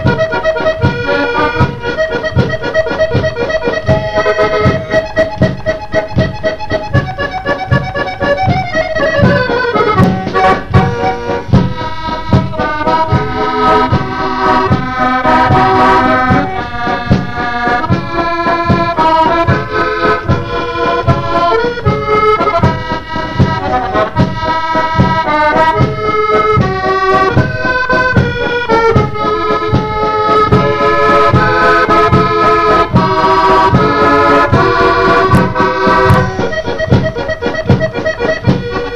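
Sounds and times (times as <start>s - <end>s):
accordion playing a waltz: 0.0s - 38.9s
drum kit beat: 0.0s - 38.9s.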